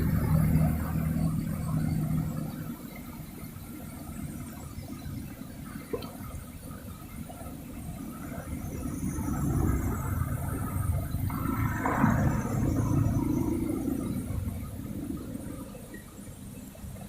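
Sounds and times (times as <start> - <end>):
traffic noise: 0.0 - 17.0
vehicle engine hum: 0.0 - 17.0
water washing on flooded street: 0.0 - 17.0.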